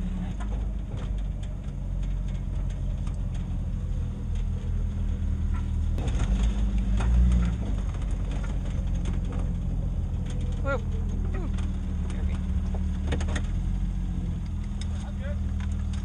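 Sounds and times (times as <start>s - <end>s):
engine running from inside cabin: 0.0s - 16.0s
body rattles and clicks: 0.2s - 13.6s, 14.4s - 16.0s.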